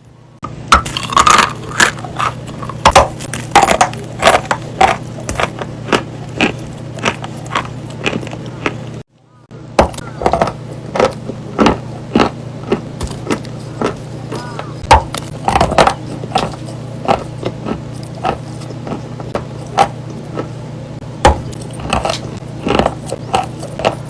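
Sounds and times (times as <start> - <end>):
steady low hum: 0.0 - 24.0
chalk crunching while chewed: 0.9 - 9.0, 9.9 - 20.6, 21.4 - 24.0.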